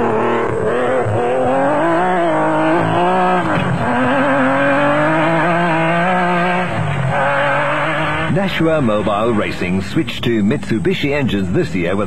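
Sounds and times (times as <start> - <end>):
engine running at high revs: 0.0 - 10.1.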